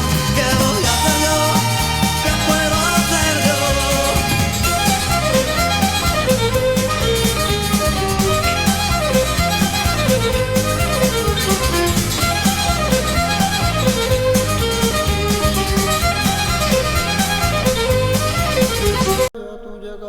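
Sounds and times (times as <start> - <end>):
bass: 0.0 - 19.3
drums with steady beat: 0.0 - 19.3
lead melody: 0.0 - 19.3.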